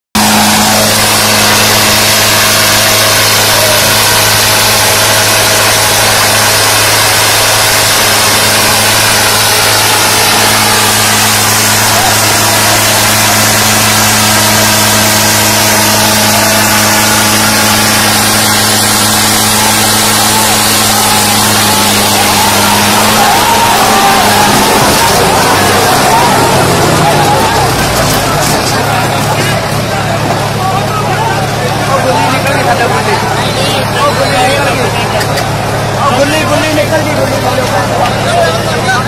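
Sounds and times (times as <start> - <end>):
tractor diesel engines under load: 0.1 - 39.0
crowd voices: 0.2 - 39.0.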